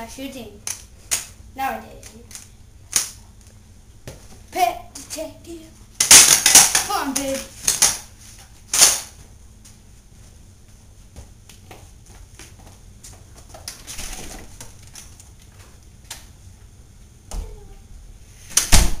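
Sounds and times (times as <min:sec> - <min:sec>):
footsteps and shuffling indoors: 0:03.2 - 0:06.0, 0:06.6 - 0:19.0.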